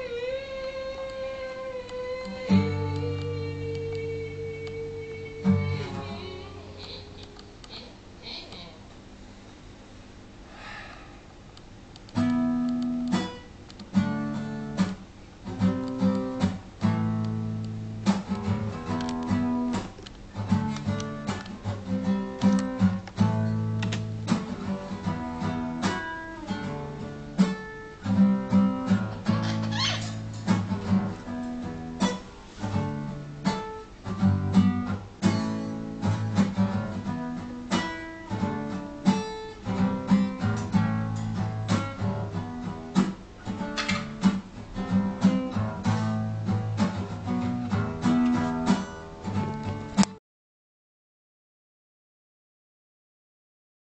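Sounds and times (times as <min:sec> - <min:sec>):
acoustic guitar strummed chords: 0:00.0 - 0:07.2, 0:12.1 - 0:50.2.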